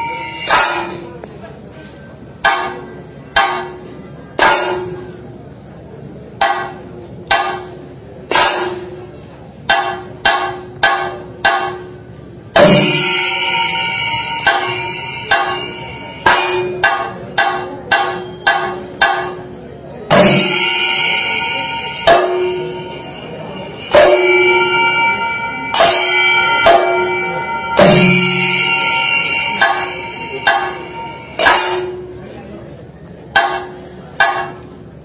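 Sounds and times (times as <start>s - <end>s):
drum stick strokes: 0.0s - 5.4s, 6.4s - 32.4s, 33.1s - 35.0s.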